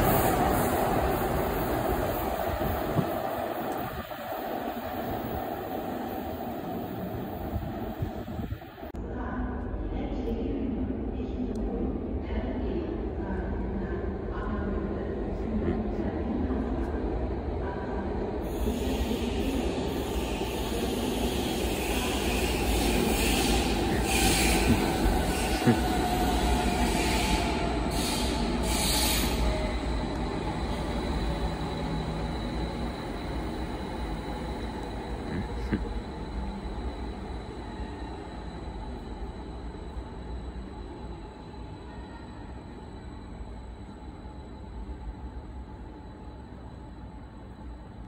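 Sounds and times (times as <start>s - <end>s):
train rumbling: 0.0s - 48.0s.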